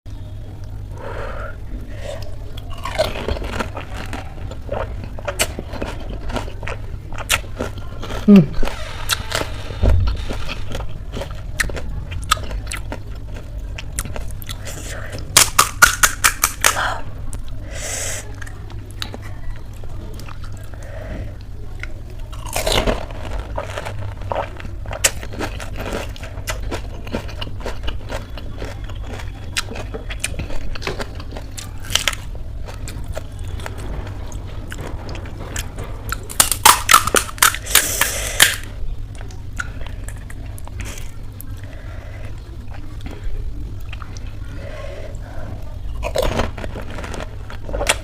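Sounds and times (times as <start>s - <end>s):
faint low hum: 0.1s - 48.0s
crunching and chewing: 0.2s - 17.6s, 18.2s - 48.0s.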